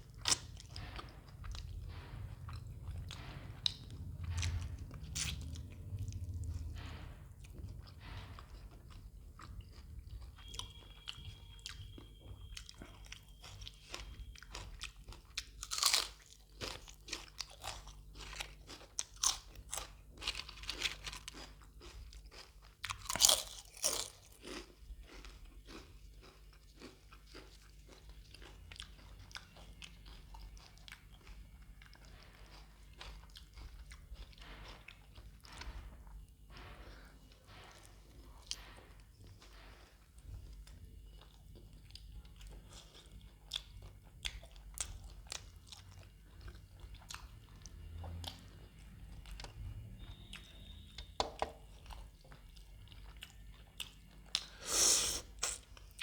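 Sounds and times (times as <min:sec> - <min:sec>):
chewing and crunching food: 0:00.0 - 0:56.0.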